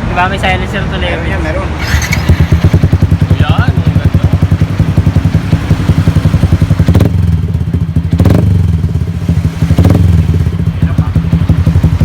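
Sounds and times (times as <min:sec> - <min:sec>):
motorcycle engine idling: 0:01.8 - 0:12.0
motorcycle throttle blips: 0:01.8 - 0:12.0.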